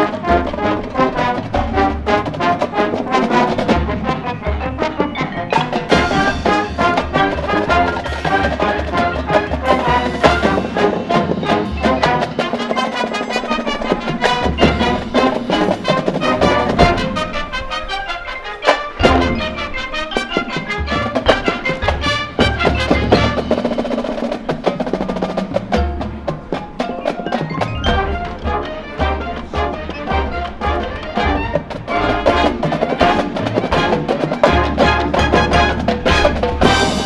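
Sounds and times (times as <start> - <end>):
brass winds playing: 0.0 - 24.4, 27.8 - 37.0
drumline: 0.0 - 37.0.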